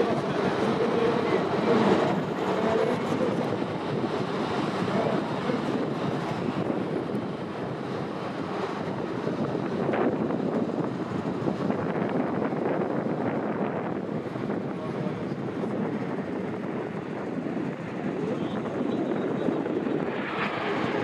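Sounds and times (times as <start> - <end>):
jet engines rushing rumble: 0.0 - 21.0.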